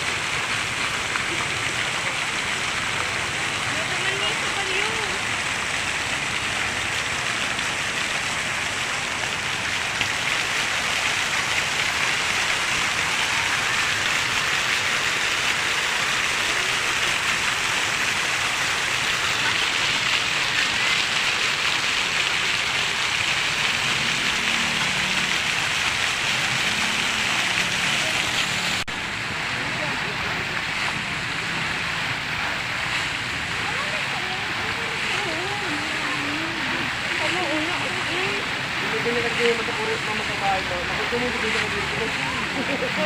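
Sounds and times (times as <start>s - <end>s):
fountain water splashing: 0.0s - 43.0s.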